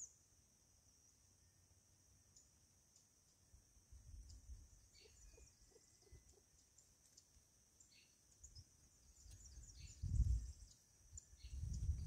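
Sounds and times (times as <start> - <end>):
small birds chirping: 0.0 - 0.3, 1.0 - 12.0
high insect hum: 0.0 - 12.0.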